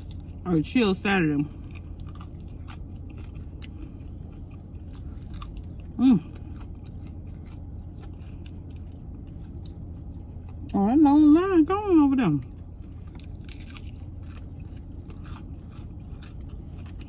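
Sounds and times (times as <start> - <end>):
person chewing crispy chicken: 0.0 - 10.8, 12.3 - 17.0
air conditioner hum: 0.0 - 17.0.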